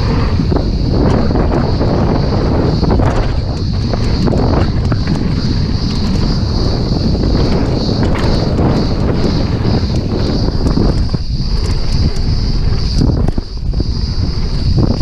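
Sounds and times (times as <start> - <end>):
tyres rolling over dirt and stones: 0.0 - 13.6
bike clicking and rattling: 0.0 - 15.0
wind buffeting microphone: 0.0 - 15.0.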